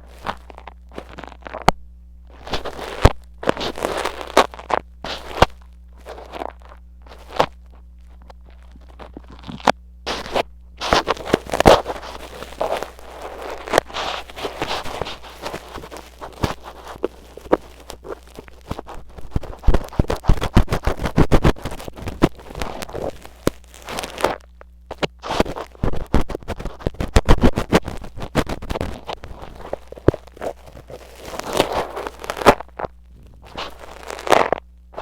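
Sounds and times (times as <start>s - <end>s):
ear pick scraping microphone: 0.0s - 35.0s
faint steady hum: 0.0s - 35.0s
wet crackle of sticky earwax: 0.0s - 35.0s.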